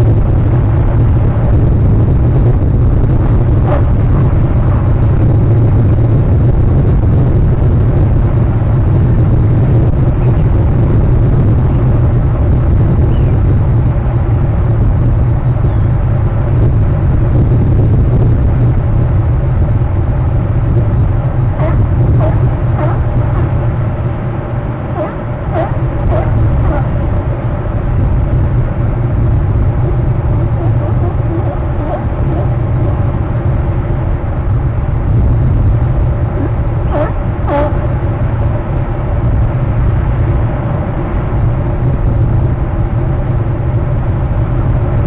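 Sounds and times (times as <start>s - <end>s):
loud low rumble: 0.0s - 45.0s.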